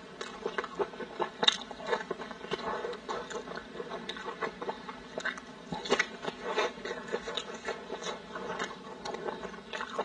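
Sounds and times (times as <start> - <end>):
person chewing meat: 0.0 - 10.0.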